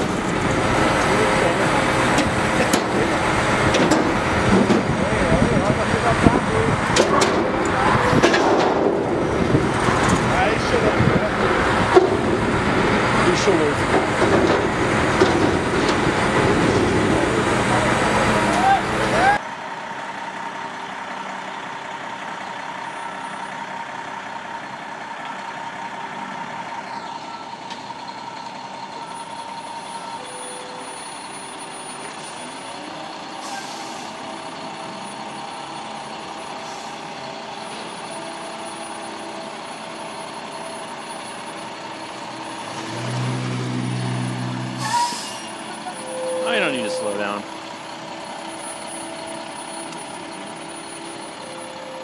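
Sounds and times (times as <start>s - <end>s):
heavy truck engine running: 0.0s - 52.0s.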